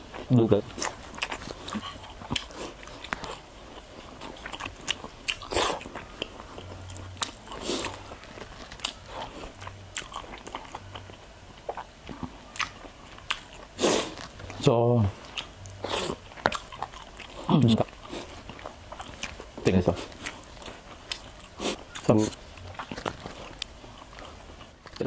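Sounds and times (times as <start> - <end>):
crispy food crunching in mouth: 0.1 - 25.0.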